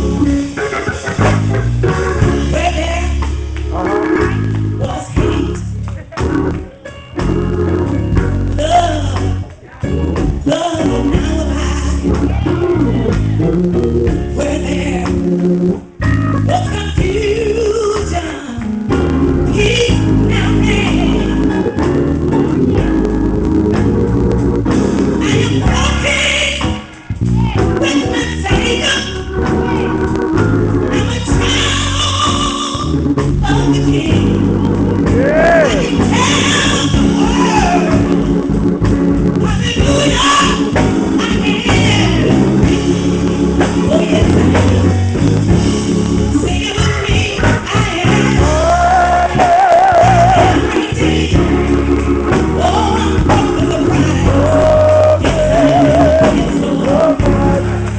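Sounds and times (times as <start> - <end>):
organ: 0.0 - 57.9
person singing gospel: 2.2 - 8.0, 8.6 - 24.0, 25.1 - 38.6, 39.4 - 45.4, 46.3 - 57.9.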